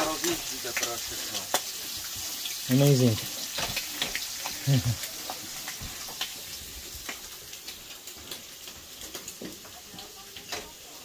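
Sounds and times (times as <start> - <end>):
bacon sizzling and popping: 0.0 - 11.0.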